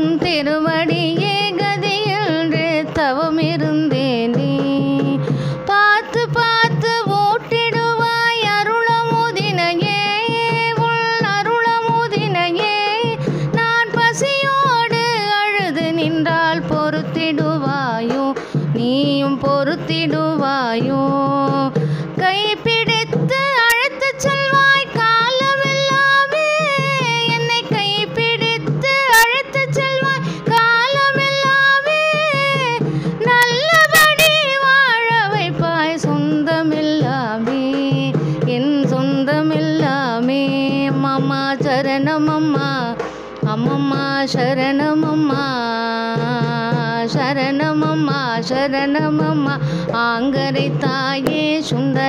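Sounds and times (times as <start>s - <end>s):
mridangam drum: 0.0s - 52.0s.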